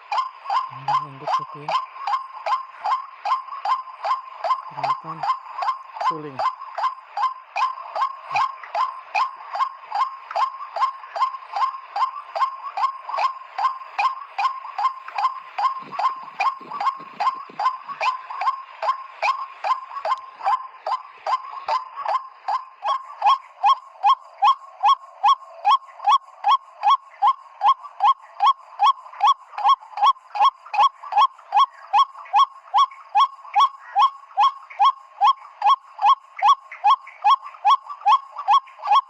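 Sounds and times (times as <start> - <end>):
waterhen hoarse calls: 0.0 - 39.0.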